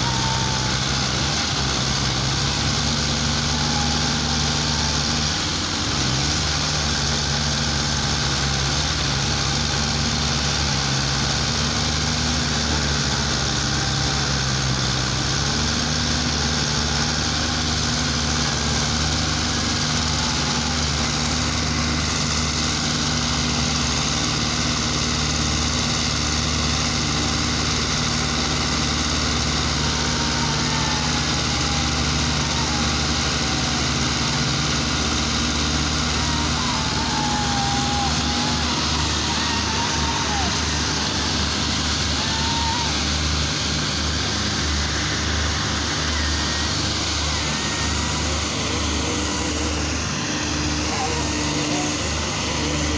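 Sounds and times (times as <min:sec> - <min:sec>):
tractor diesel engines straining: 0:00.0 - 0:52.9.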